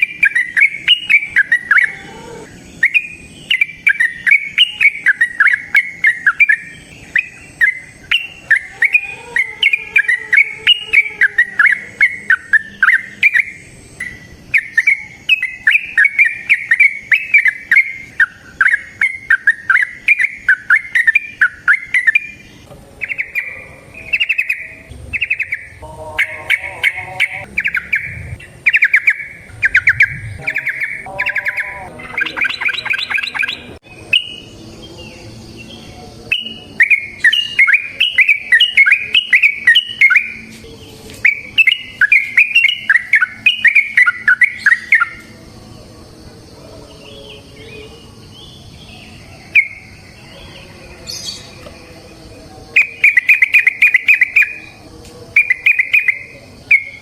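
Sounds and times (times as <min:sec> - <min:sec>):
lower bird calls: 0:00.0 - 0:45.4, 0:52.8 - 0:54.8, 0:55.4 - 0:57.0
bulbul singing: 0:00.0 - 0:57.0.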